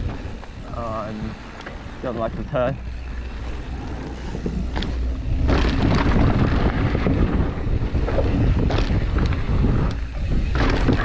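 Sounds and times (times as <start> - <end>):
bike rattles and clicks: 0.0 - 11.0
bike tyres on dirt trail: 0.0 - 11.0
wind rushing over microphone: 0.0 - 11.0.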